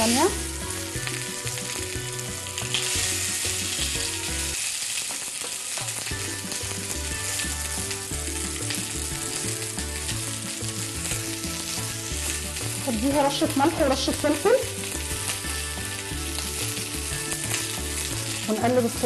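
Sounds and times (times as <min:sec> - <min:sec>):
tongs turning food in pan: 0:00.0 - 0:19.0
vegetables sizzling in a pan: 0:00.0 - 0:19.0.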